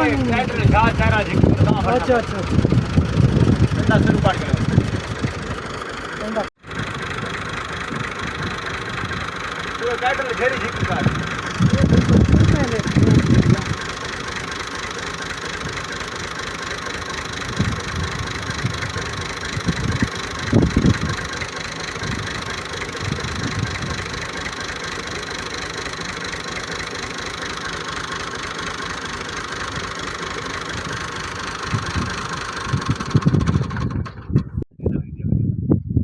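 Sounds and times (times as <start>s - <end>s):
tractor diesel engine running: 0.0s - 34.7s.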